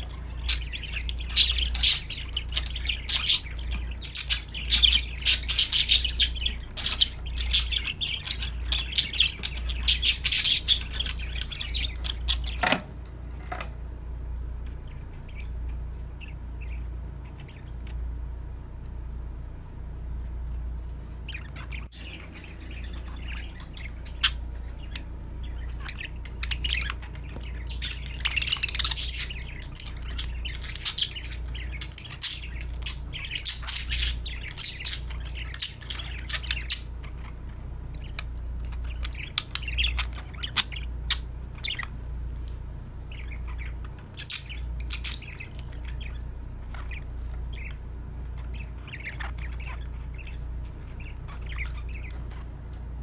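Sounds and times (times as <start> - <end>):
budgerigars chattering and chirping: 0.0 - 13.6, 14.6 - 18.2, 21.2 - 53.0
steady low hum: 0.0 - 53.0.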